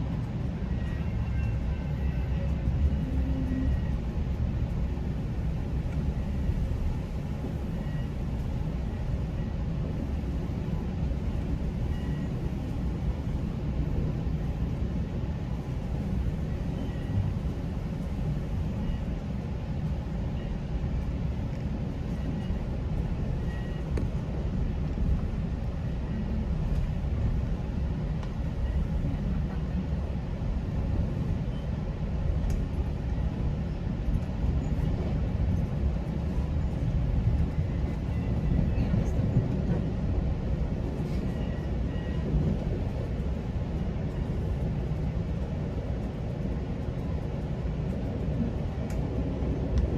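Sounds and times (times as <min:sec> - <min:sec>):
train rumbling along track: 0:00.0 - 0:49.9.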